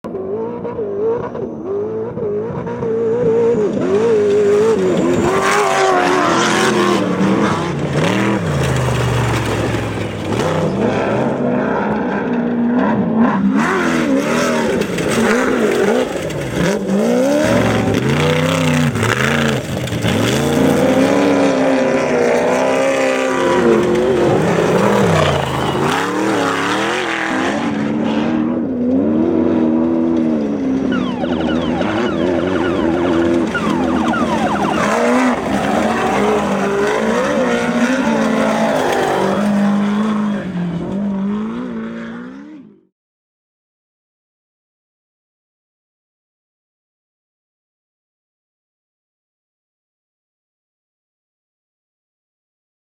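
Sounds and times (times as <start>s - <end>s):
racing vehicle engine revving: 0.1s - 42.8s.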